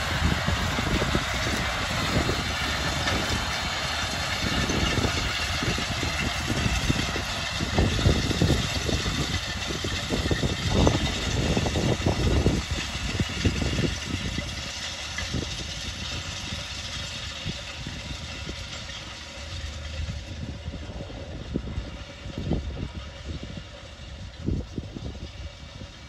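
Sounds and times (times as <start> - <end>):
distant tractor engine droning: 0.0 - 26.0
gusty low rumbling: 0.0 - 26.0.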